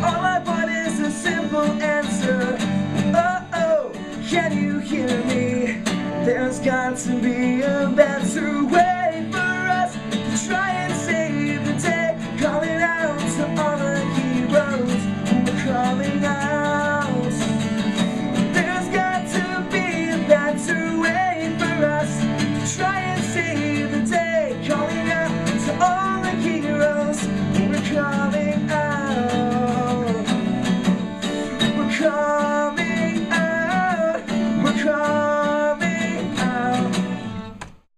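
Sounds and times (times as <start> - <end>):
person singing: 0.0 - 37.8
acoustic guitar strumming: 0.0 - 37.9.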